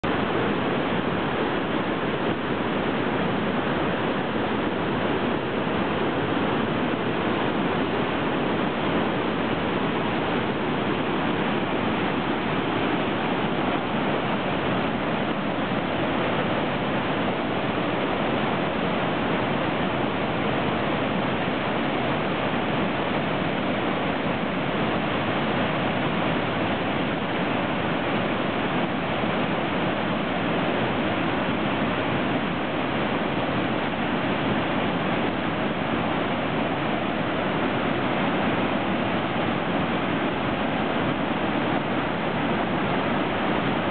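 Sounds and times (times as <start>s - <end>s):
waterfall rushing over boulders: 0.0s - 43.9s.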